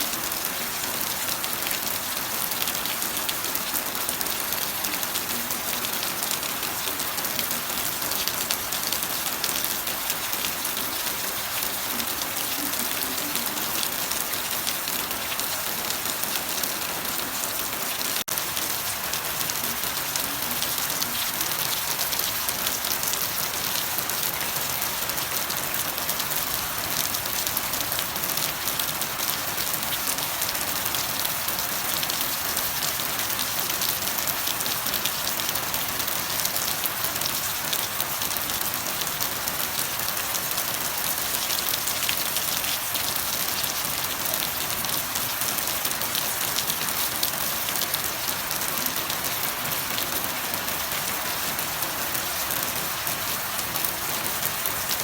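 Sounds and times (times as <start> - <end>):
heavy rain pattering: 0.0 - 55.0.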